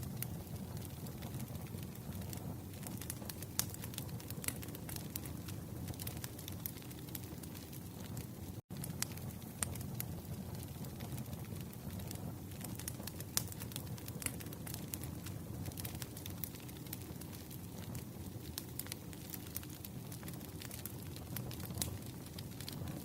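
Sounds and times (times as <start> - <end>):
burning wood crackling: 0.0 - 23.0
low rumble of flames: 0.0 - 23.0.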